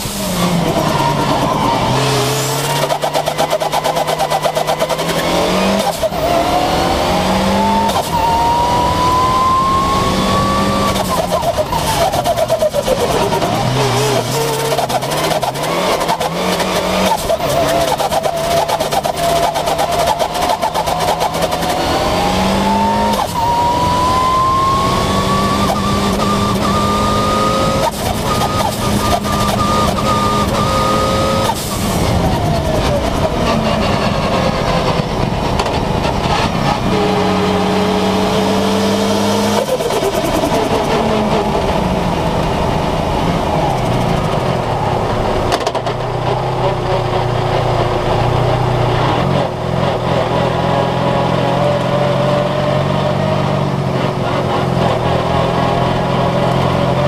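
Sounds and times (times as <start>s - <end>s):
race car engine accelerating: 0.0s - 57.0s
wind and road noise: 0.0s - 57.0s.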